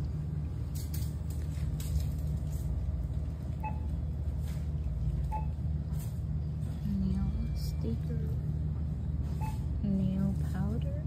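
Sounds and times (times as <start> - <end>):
store background hum: 0.0 - 11.0.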